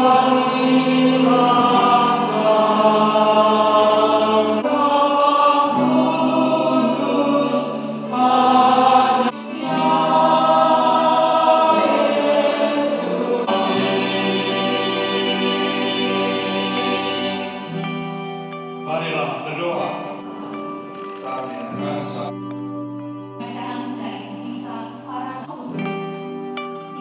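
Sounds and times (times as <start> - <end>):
choir singing sustained chords: 0.0 - 27.0.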